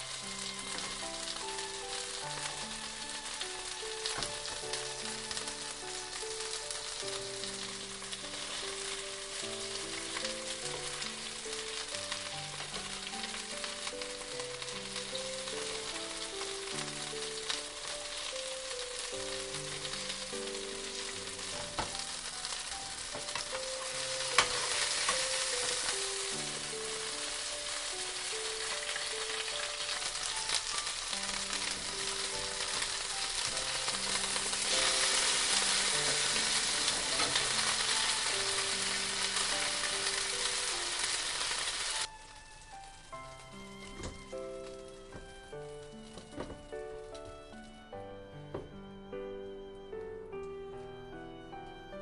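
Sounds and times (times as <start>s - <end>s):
food sizzling in a pan: 0.0s - 47.2s.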